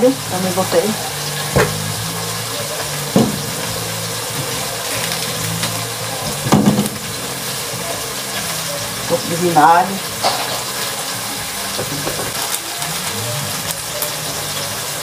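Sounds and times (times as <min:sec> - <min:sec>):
crab sizzling in a pot: 0:00.0 - 0:15.0.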